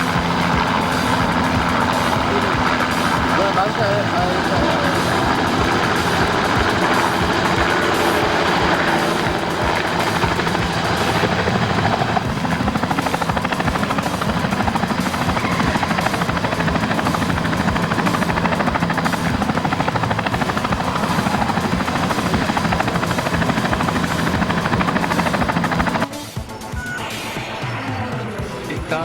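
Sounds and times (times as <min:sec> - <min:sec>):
toy helicopter rotor chopping: 0:00.0 - 0:29.0.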